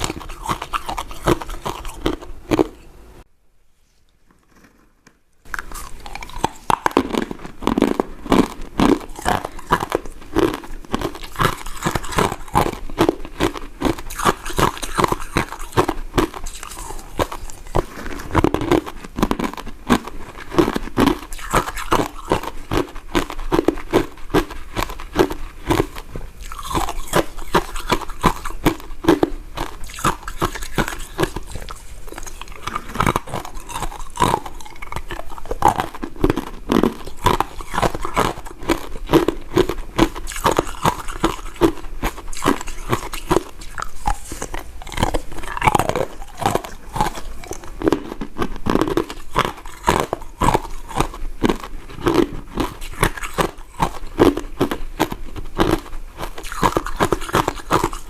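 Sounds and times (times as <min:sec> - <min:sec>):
person chewing mint sweets: 0:00.0 - 0:03.3, 0:05.4 - 0:58.0.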